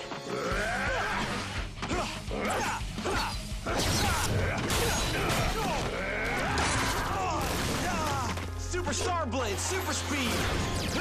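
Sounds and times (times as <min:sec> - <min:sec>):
action music: 0:00.0 - 0:11.0.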